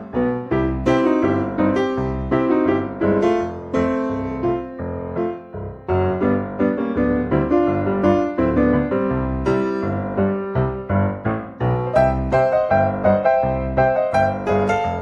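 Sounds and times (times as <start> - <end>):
piano chords over bass line: 0.0 - 15.0.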